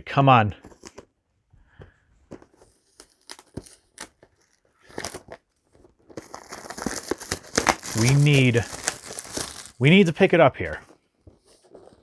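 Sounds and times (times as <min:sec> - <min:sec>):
packaging rustle: 0:02.2 - 0:12.0
card packaging crackling and tearing: 0:02.3 - 0:12.0.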